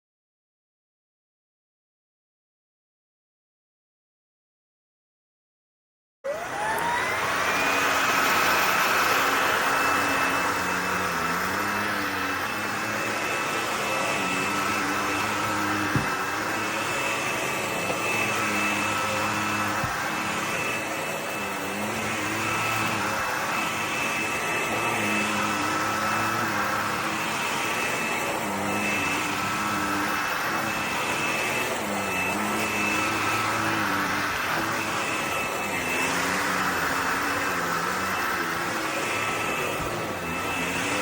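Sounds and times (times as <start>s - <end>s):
cordless vacuum running: 6.3s - 41.0s.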